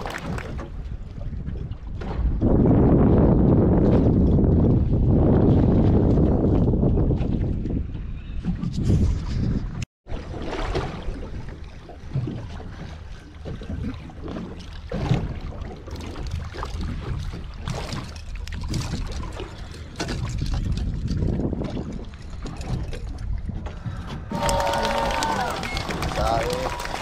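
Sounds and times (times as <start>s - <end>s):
wind buffeting microphone: 0.0s - 9.9s, 10.9s - 27.0s
water slapping against boat: 0.0s - 27.0s.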